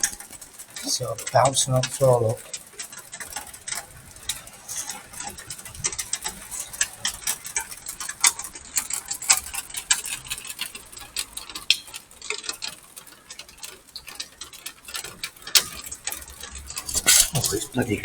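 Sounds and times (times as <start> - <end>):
hailstones hitting the ground: 0.0 - 18.0.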